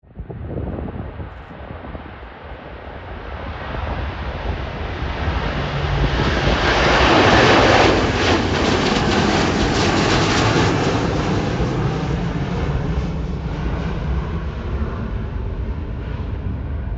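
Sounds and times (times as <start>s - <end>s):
jet airliner engines passing: 0.1s - 16.9s.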